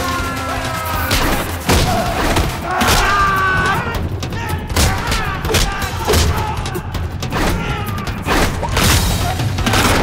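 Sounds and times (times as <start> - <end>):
loud dramatic music: 0.0 - 10.0.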